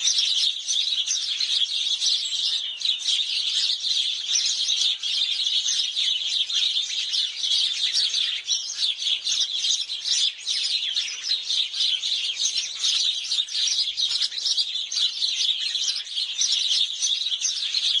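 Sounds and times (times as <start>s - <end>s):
sparrows chirping: 0.0s - 18.0s.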